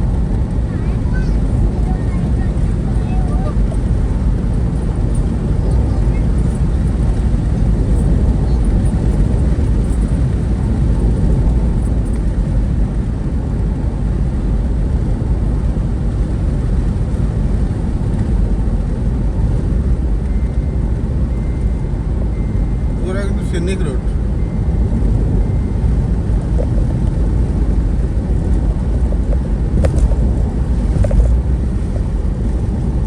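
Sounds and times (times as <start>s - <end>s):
road vehicle rumble: 0.0s - 33.0s.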